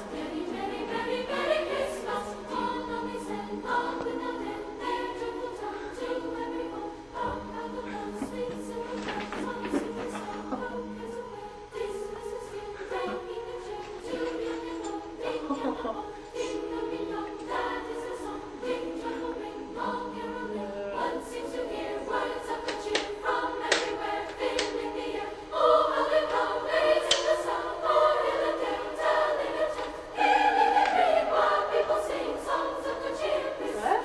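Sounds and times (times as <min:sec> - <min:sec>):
choir singing sustained chords: 0:00.0 - 0:34.0.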